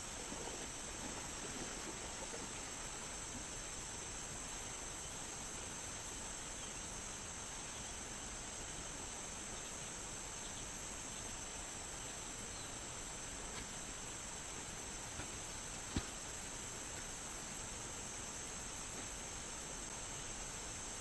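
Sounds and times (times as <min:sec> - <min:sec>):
background hiss: 0:00.0 - 0:21.0.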